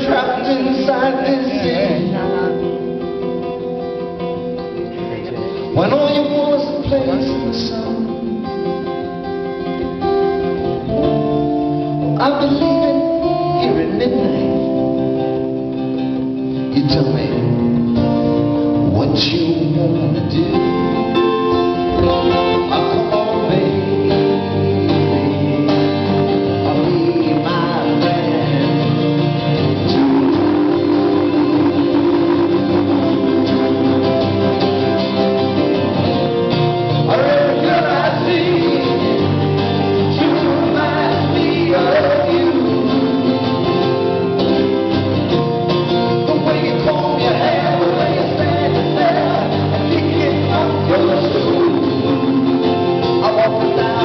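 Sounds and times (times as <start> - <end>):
man singing: 0.0 - 3.6, 4.8 - 10.3, 12.0 - 15.6, 16.6 - 35.0, 36.8 - 44.4, 45.9 - 54.0
acoustic guitar playing: 0.0 - 54.0.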